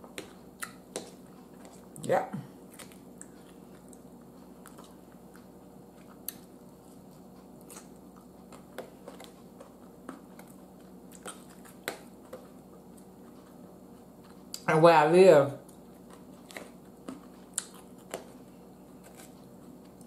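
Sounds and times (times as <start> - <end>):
chewing crisp salad: 0.0 - 14.7, 15.6 - 20.0
faint steady hum: 0.0 - 20.0.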